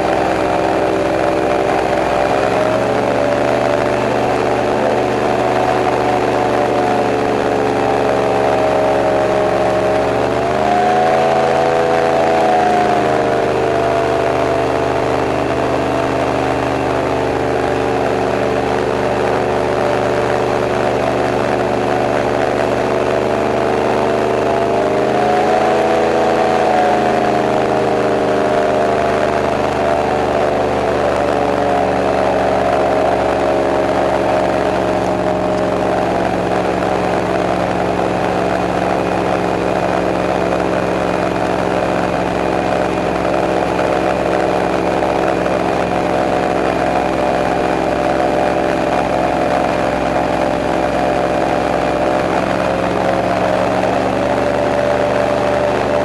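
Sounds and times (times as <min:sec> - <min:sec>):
airboat engine and propeller droning: 0:00.0 - 0:56.0.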